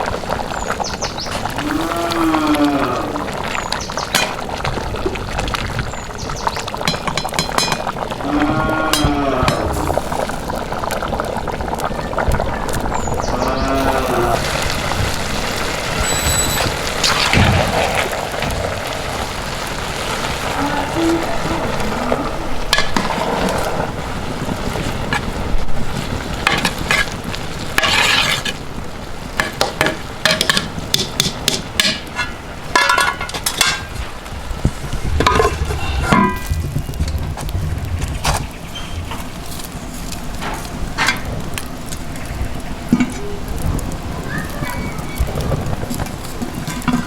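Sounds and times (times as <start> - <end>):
food sizzling over fire: 0.0 - 47.0.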